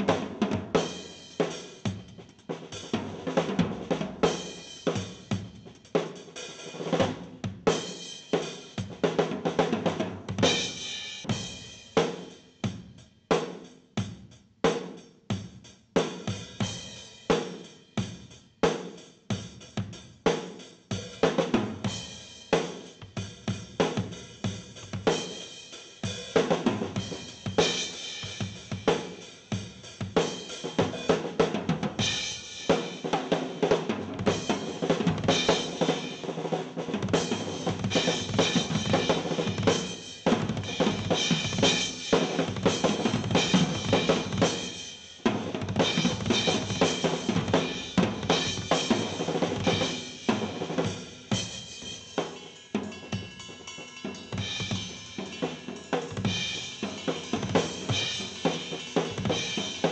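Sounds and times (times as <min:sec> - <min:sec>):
snare and bass drum strokes: 0:00.0 - 0:59.9.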